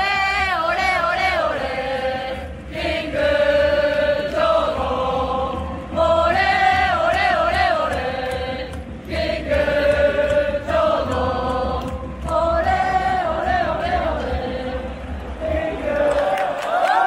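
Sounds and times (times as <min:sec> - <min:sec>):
steady low rumble: 0:00.0 - 0:16.3
crowd chanting in unison: 0:00.0 - 0:17.0.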